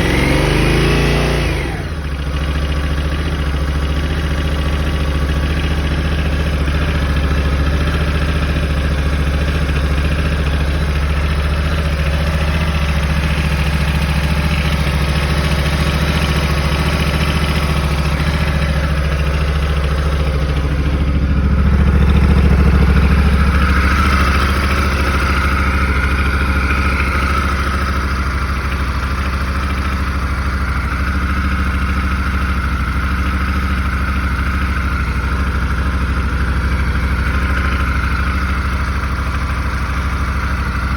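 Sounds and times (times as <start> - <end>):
motorcycle engine idling with rattle: 0.0 - 40.9.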